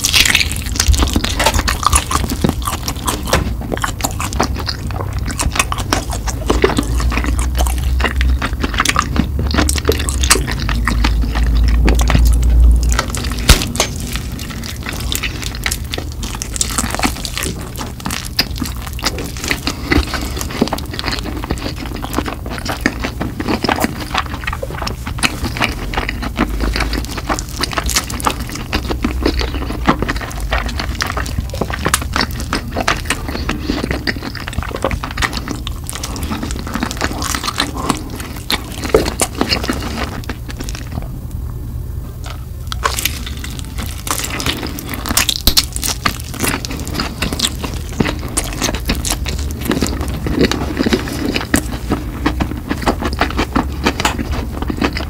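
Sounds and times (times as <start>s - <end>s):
chewing crispy chicken: 0.0s - 41.4s, 42.2s - 55.0s.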